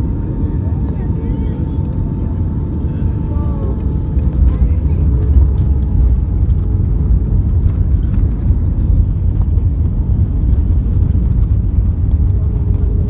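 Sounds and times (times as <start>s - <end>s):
aircraft engine noise: 0.0s - 13.0s
wheels rumbling on pavement: 0.0s - 13.0s.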